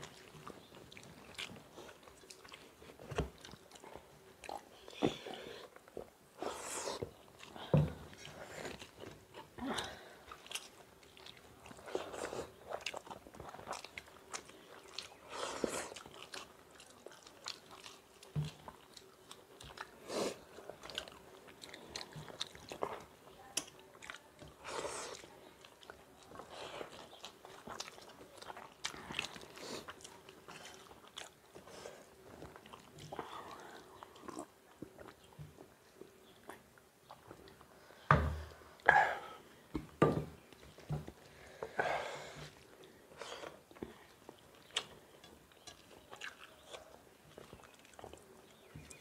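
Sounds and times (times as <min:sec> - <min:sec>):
people chewing and eating: 0:00.0 - 0:49.0.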